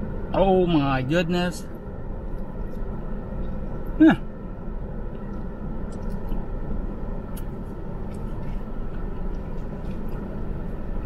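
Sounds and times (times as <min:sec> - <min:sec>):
car air conditioning hiss: 0:00.0 - 0:11.0.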